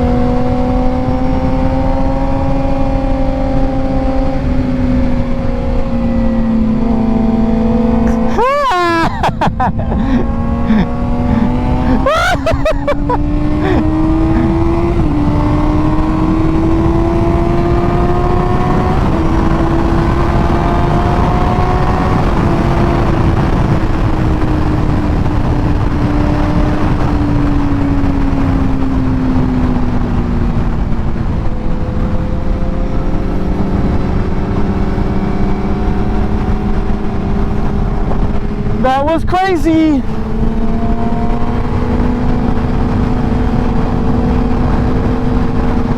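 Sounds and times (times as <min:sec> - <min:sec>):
motorbike engine revving: 0:00.0 - 0:39.2, 0:40.0 - 0:45.9
wind and road noise: 0:00.0 - 0:45.9.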